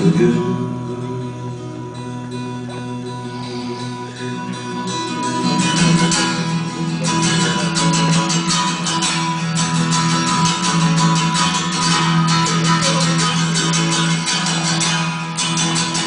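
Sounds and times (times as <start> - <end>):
strummed guitar music with beat: 0.0 - 16.0.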